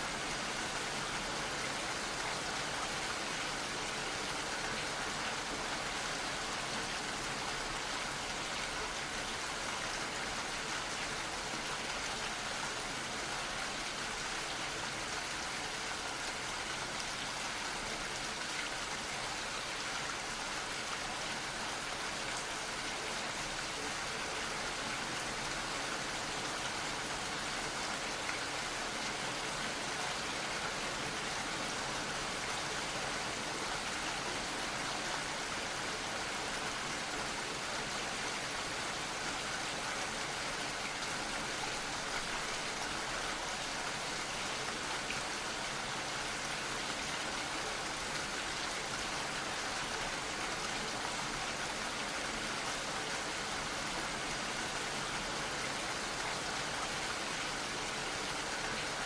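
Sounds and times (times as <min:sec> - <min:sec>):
gentle rain falling: 0:00.0 - 0:59.0.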